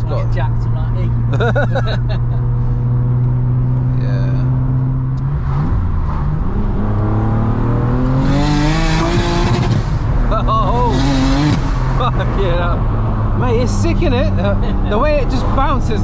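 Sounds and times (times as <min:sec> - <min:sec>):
car engine: 0:00.0 - 0:16.0.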